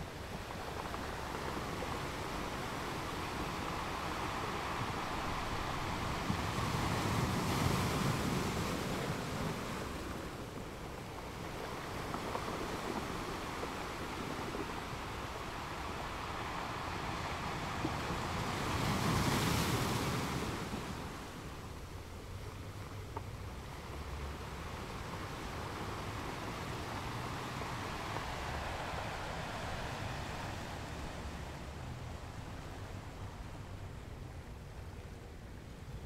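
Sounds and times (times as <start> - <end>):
ocean surf washing onto beach: 0.0 - 36.0
wind on microphone: 0.0 - 36.0.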